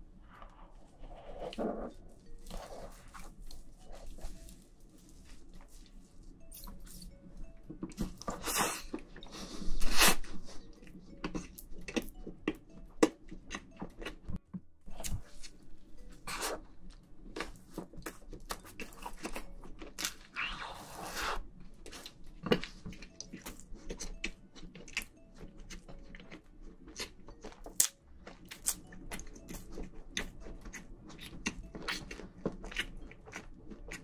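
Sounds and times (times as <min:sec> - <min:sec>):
chewing soft cake: 0:00.5 - 0:06.5, 0:07.9 - 0:34.0.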